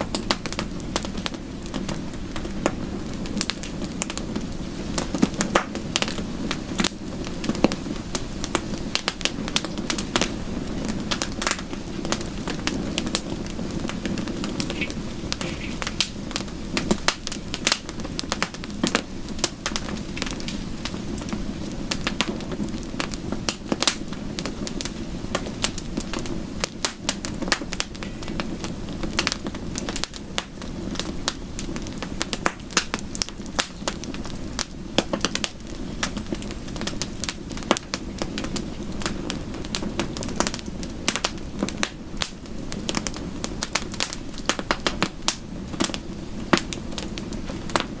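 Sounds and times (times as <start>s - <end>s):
rain rushing: 0.0s - 48.0s
wood fire crackling and popping: 0.0s - 48.0s.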